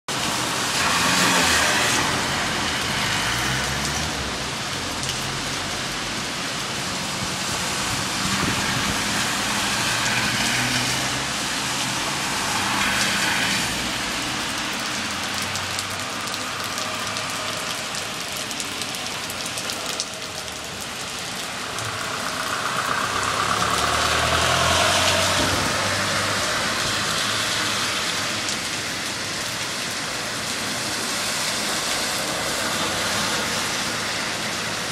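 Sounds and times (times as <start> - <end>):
cars driving through water: 0.1 - 34.9
heavy rain pouring: 0.1 - 34.9.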